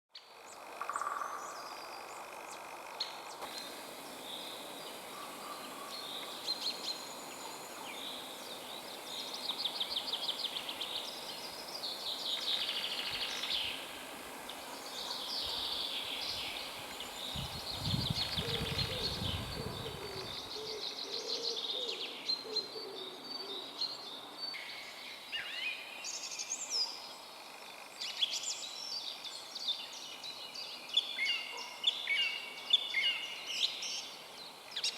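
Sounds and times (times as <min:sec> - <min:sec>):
birds singing in chorus: 0:00.2 - 0:34.9.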